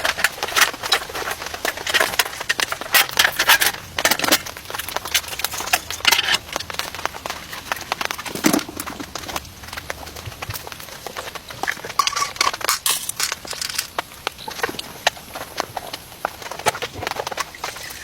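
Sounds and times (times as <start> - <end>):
heavy rain drops tapping: 0.0 - 18.0.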